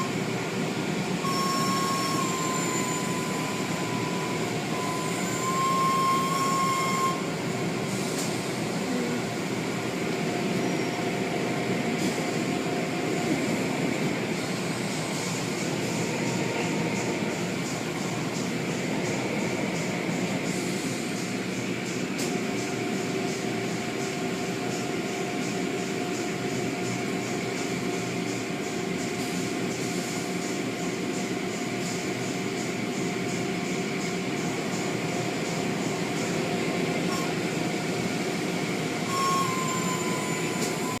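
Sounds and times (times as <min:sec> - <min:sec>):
car wash machinery drone: 0:00.0 - 0:41.0.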